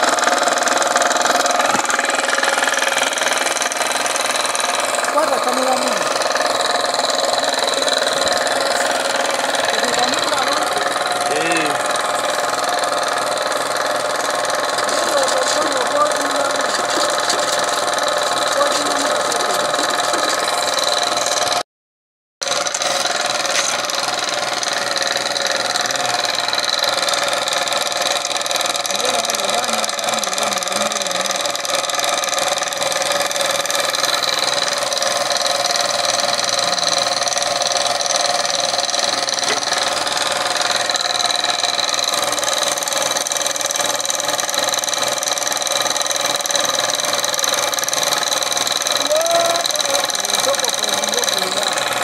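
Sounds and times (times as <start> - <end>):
engine running steadily: 0.0 - 21.6, 22.4 - 52.0.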